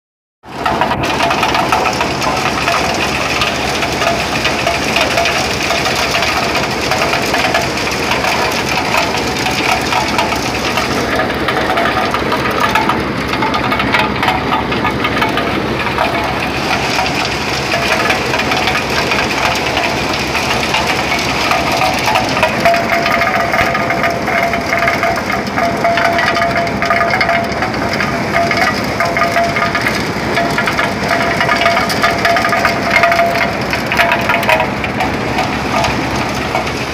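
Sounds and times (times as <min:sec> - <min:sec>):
corn sheller engine hum: 0:00.4 - 0:36.9
rattling crackle of corn threshing: 0:00.4 - 0:36.9.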